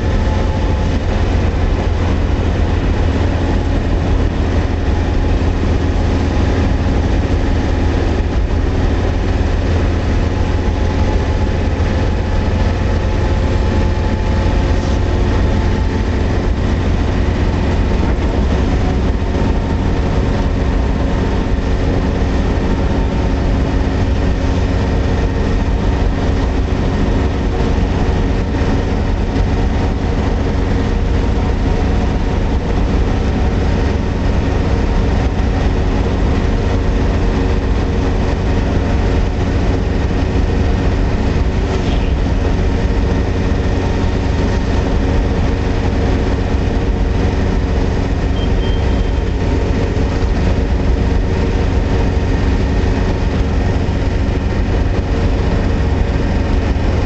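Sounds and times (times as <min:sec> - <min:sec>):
road and tyre rumble: 0:00.0 - 0:57.0
truck engine droning: 0:00.0 - 0:57.0.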